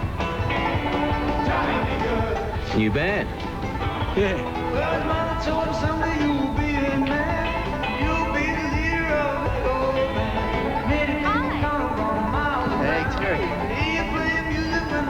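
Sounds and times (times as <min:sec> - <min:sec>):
country band music: 0:00.0 - 0:15.0.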